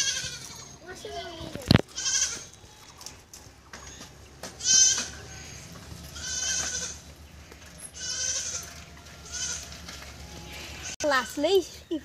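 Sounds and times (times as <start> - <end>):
goat bleating: 0.0 - 3.0, 3.8 - 7.1, 7.9 - 11.5.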